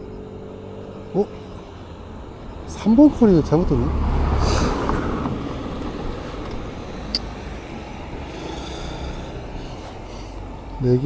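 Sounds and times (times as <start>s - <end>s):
road traffic rumble: 0.0s - 11.0s
wind: 0.0s - 11.0s.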